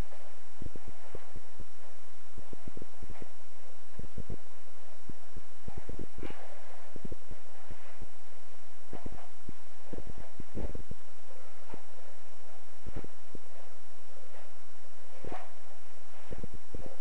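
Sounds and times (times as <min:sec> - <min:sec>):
clothing rustling: 0:00.0 - 0:17.0
steady low hum: 0:00.0 - 0:17.0.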